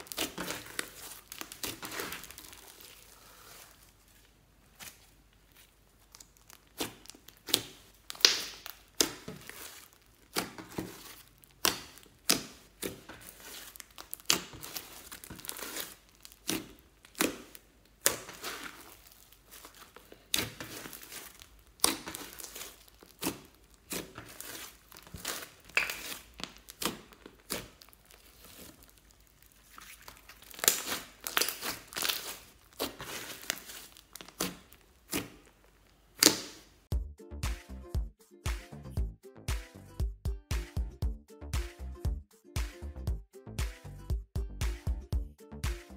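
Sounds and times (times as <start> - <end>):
slime crackling and popping: 0.0 - 36.9.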